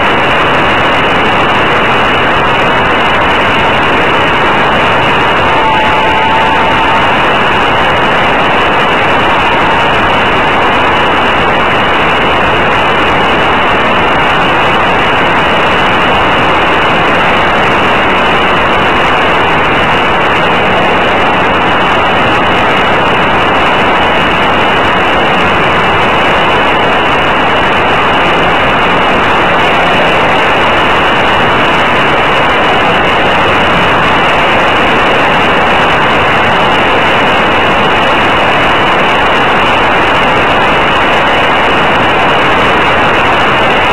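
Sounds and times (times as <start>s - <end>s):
model airplane motor and wind rush: 0.0s - 43.9s.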